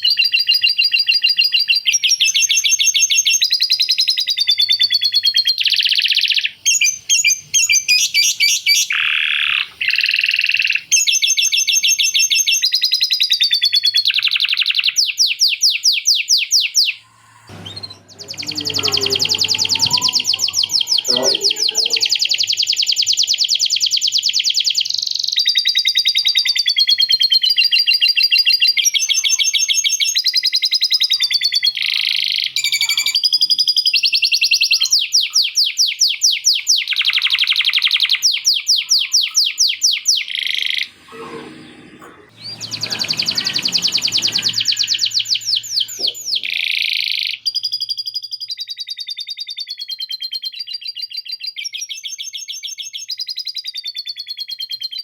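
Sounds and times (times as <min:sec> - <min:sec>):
canary singing trills: 0:00.0 - 0:41.4, 0:42.2 - 0:55.0.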